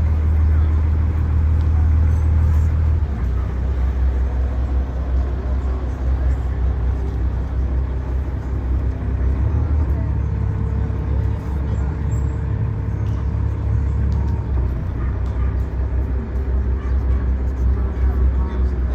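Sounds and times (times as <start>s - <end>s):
boat engine rumbling: 0.0s - 18.9s.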